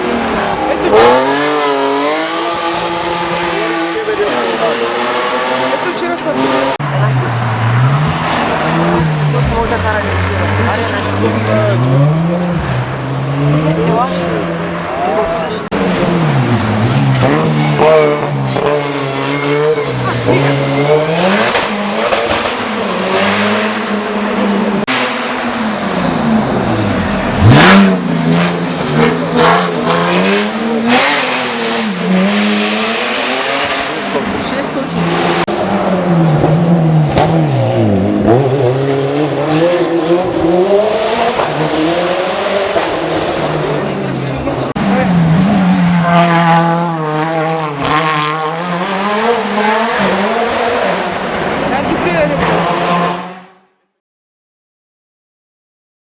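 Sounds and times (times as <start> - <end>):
race car engine at high revs: 0.0 - 53.8.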